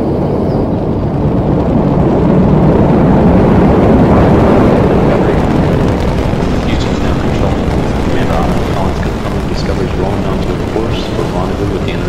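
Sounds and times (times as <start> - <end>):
rocket engines roaring: 0.0 - 12.0.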